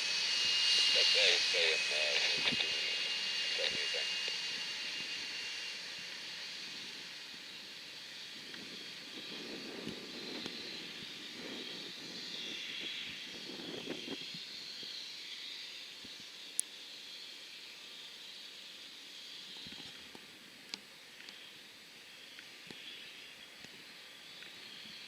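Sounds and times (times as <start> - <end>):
distant jet engines: 0.0 - 25.0.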